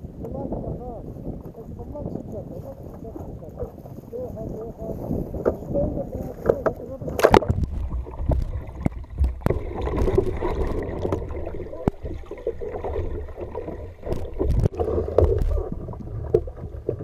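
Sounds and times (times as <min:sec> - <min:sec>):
low microphone rumble: 0:00.0 - 0:17.0
water sloshing around kayak: 0:01.1 - 0:17.0.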